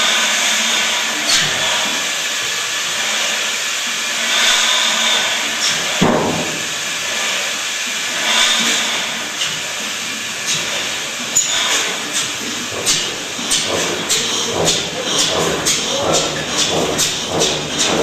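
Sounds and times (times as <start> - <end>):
stationary engine hissing and whooshing: 0.0 - 18.0.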